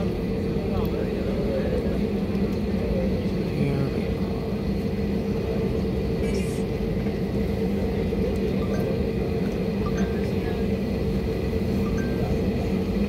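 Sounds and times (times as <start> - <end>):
jet engines humming in cabin: 0.0 - 13.0.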